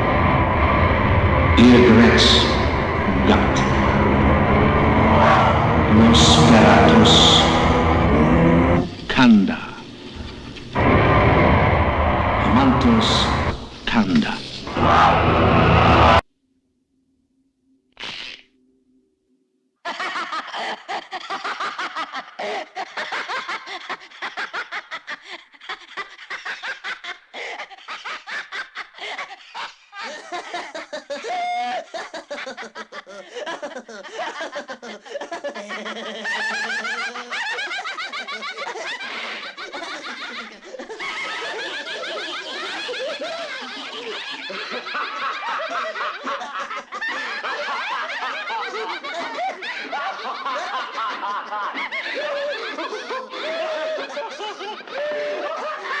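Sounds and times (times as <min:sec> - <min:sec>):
voices cackling and laughing: 0:00.0 - 0:16.2, 0:19.9 - 0:56.0.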